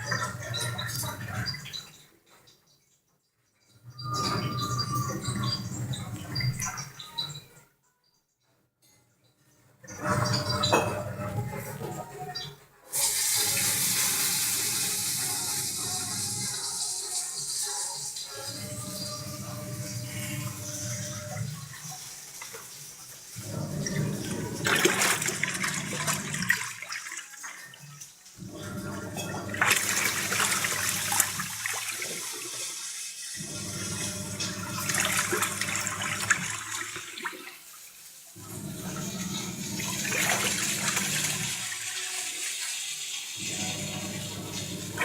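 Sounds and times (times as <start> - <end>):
washing machine churning: 0.0 - 2.2, 3.9 - 7.6, 9.8 - 45.0.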